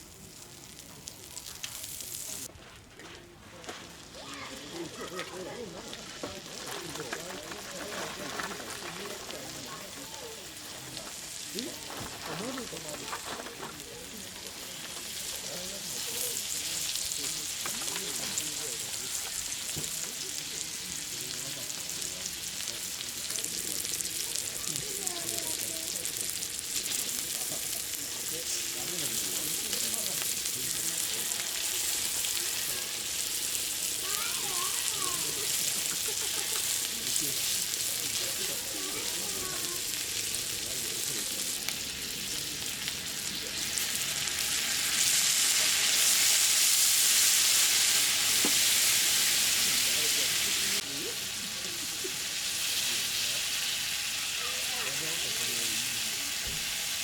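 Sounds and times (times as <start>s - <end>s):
food sizzling in a hot pan: 0.0s - 2.5s, 3.6s - 57.0s.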